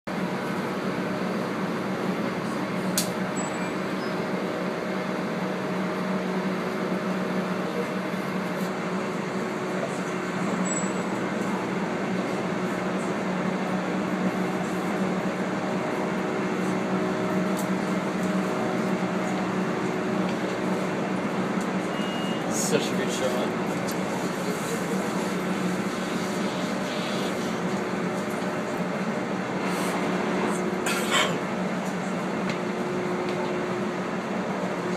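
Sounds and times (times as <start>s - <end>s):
train running noise: 0.1s - 34.9s.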